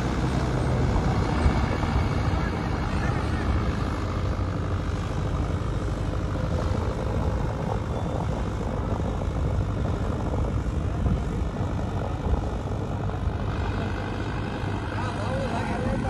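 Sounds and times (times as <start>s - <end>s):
tractor engine running under load: 0.0s - 16.0s.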